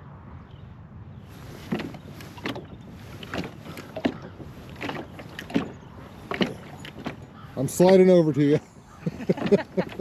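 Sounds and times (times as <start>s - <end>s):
paddle strokes splashing water: 1.3s - 10.0s.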